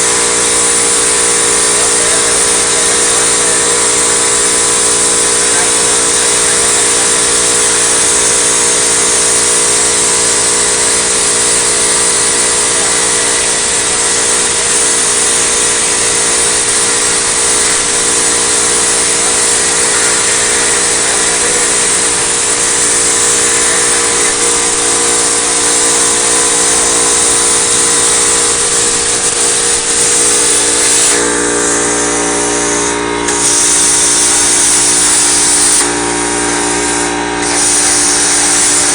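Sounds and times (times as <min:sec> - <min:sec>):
multi-tone hum: 0:00.0 - 0:38.9
plasma arc hiss: 0:00.0 - 0:38.9.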